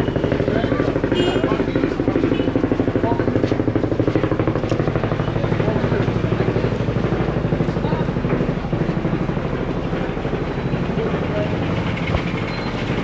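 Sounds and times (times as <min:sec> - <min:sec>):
boat engine pulsing: 0:00.0 - 0:13.0.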